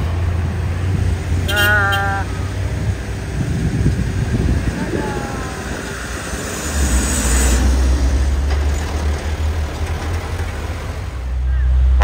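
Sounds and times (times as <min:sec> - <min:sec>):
road traffic noise: 0:00.0 - 0:12.0
truck engine driving past: 0:00.0 - 0:12.0.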